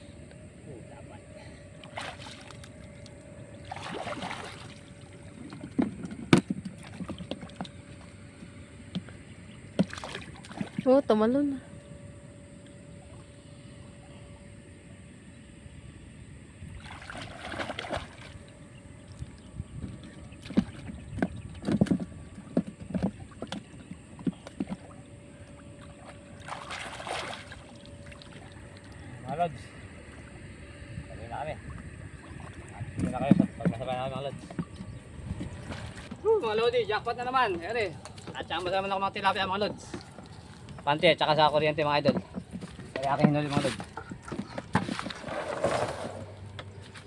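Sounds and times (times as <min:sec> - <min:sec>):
faint steady hum: 0:00.0 - 0:47.0
water sloshing and splashing: 0:01.2 - 0:13.5, 0:16.6 - 0:47.0.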